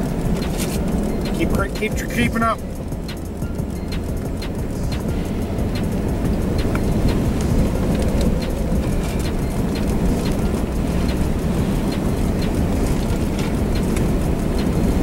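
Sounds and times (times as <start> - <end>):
low rumble of wind and road: 0.0 - 15.0
rain ticking on car: 0.0 - 15.0.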